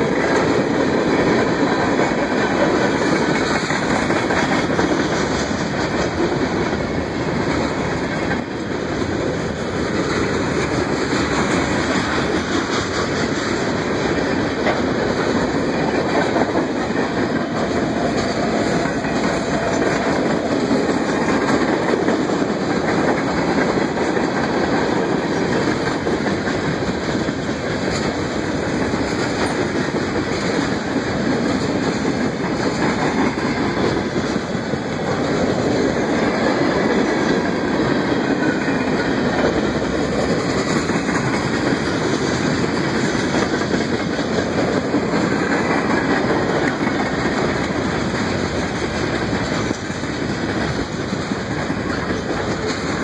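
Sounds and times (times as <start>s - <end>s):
train wheels rolling on rails: 0.0s - 53.0s.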